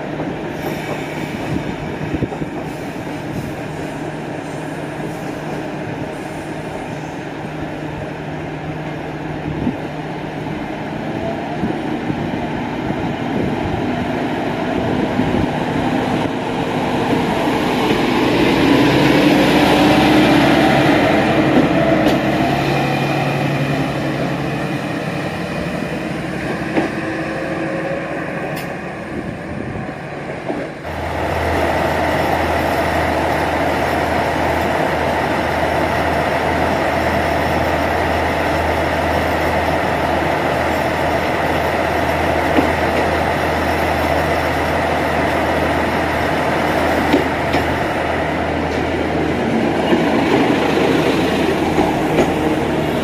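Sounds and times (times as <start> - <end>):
diesel railcar accelerating past: 0.0 - 53.0
diesel train engine humming: 0.0 - 53.0.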